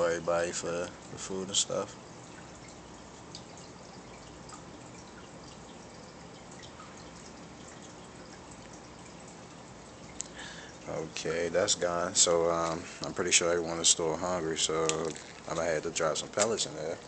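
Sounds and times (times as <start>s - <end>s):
aquarium filter water trickling: 0.0s - 17.0s
faint water drips: 0.0s - 17.0s.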